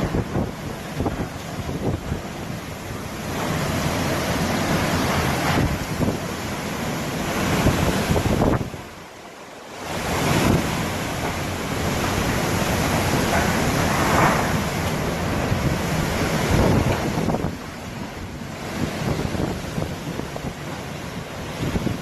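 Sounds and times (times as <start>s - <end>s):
strong wind buffeting microphone: 0.0s - 9.1s, 9.7s - 22.0s.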